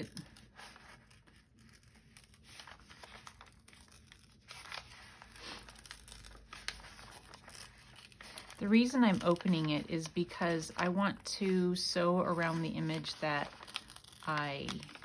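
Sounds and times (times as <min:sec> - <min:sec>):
paper bag tearing and crinkling: 0:00.0 - 0:15.0.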